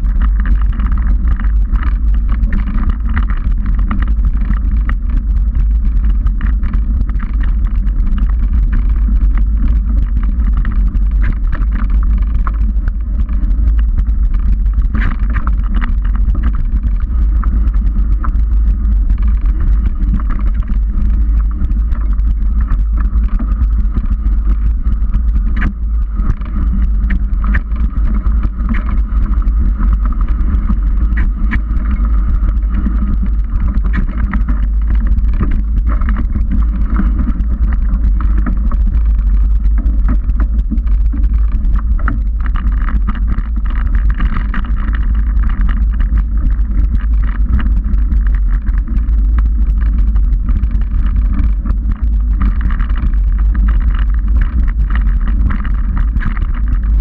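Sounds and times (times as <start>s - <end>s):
low rumble of wind and vibration: 0.0s - 57.0s.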